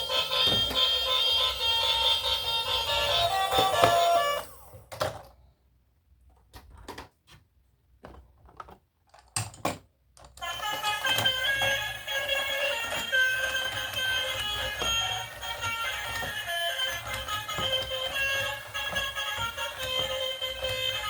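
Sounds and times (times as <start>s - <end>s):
plastic toys clicking and tapping: 0.0s - 5.4s, 8.0s - 21.0s.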